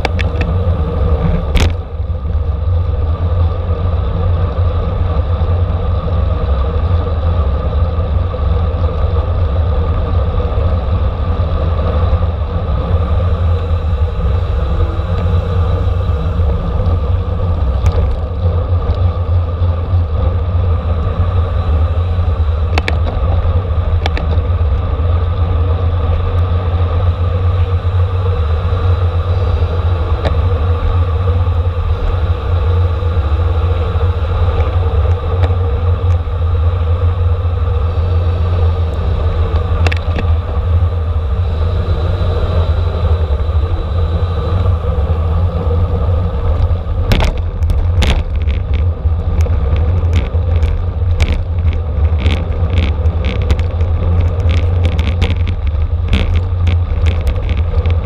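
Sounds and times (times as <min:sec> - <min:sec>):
sharp bicycle clicks and ticks: 0:00.0 - 0:20.3, 0:21.0 - 0:41.0, 0:46.3 - 0:58.0
wind and road rumble: 0:00.0 - 0:58.0.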